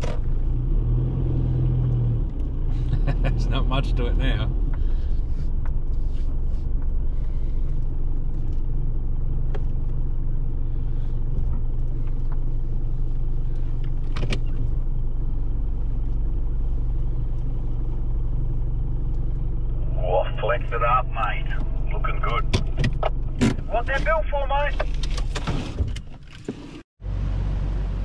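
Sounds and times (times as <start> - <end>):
engine rumble inside cabin: 0.0 - 28.0.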